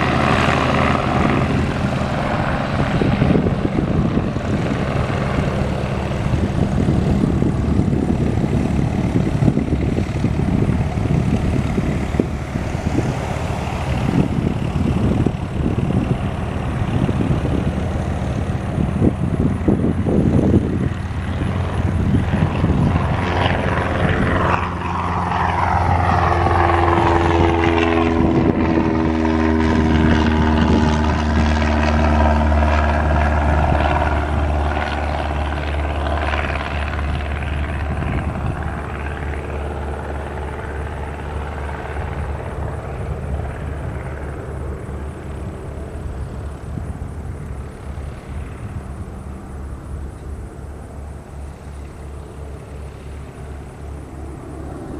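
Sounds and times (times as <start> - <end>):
helicopter rotor beat: 0.0 - 54.9
turbine whine: 0.0 - 54.9.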